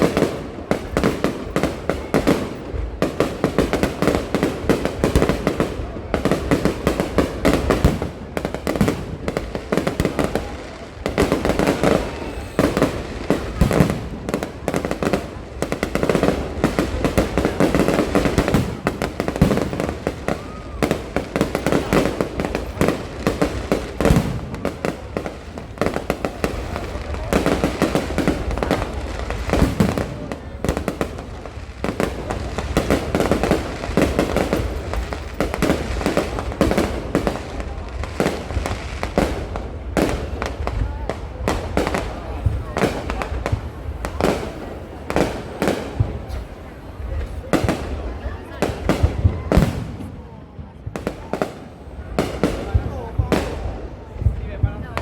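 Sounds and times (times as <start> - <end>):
fireworks bangs and pops: 0.0 - 55.0.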